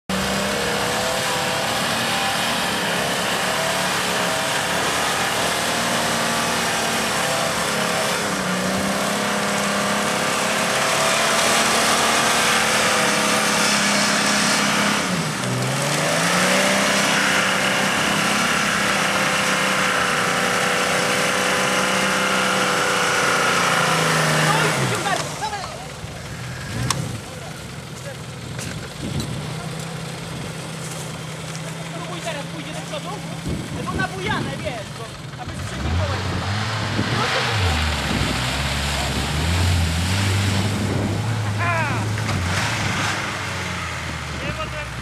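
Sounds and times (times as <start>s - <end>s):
engine running hard in mud: 0.1s - 45.0s.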